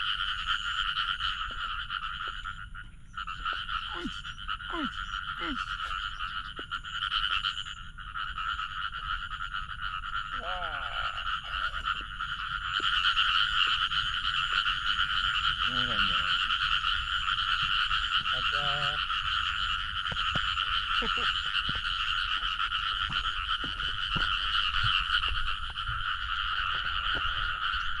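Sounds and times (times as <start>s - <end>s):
chorus of frogs croaking: 0.0s - 28.0s.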